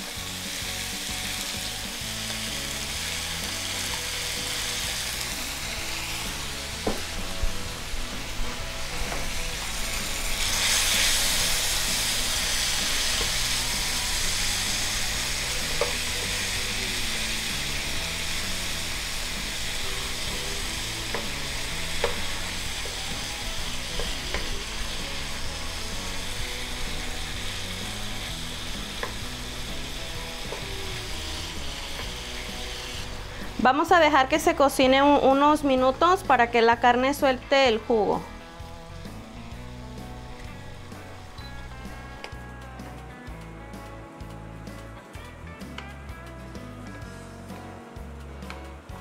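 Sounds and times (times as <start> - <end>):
beef sizzling in hot oil: 0.0 - 43.9.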